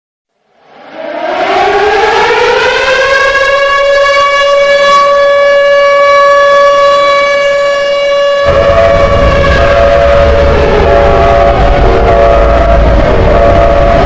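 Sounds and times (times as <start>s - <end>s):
siren winding up: 0.6s - 14.0s.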